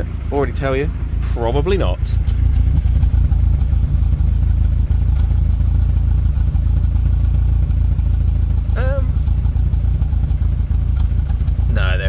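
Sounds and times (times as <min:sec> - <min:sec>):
engine idling unevenly: 0:00.0 - 0:12.0.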